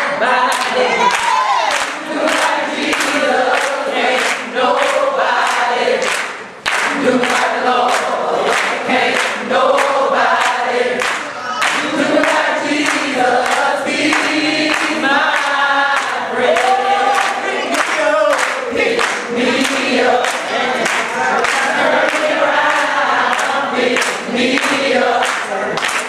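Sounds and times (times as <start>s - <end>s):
group singing gospel song: 0.0s - 26.0s
hand claps: 0.5s - 26.0s.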